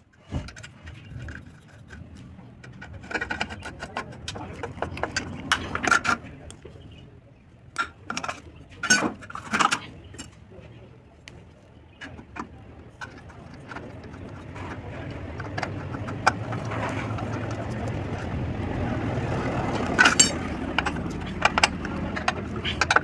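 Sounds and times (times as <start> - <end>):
steady low rumble: 0.4 - 23.0.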